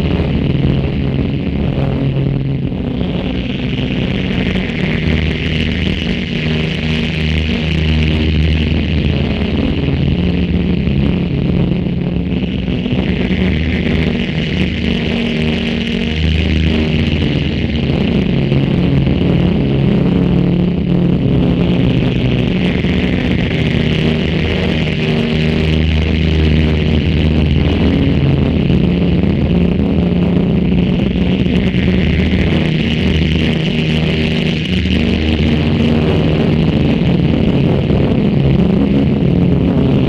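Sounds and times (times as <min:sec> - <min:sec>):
electronic drone: 0:00.0 - 0:40.0.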